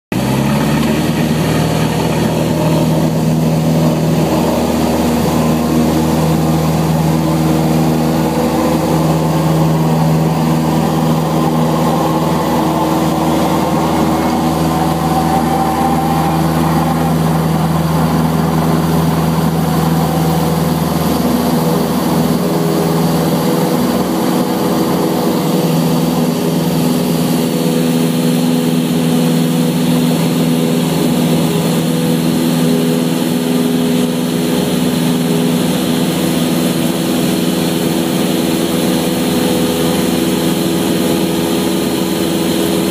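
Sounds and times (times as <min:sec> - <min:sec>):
airplane engine drone in cabin: 0:00.1 - 0:42.9.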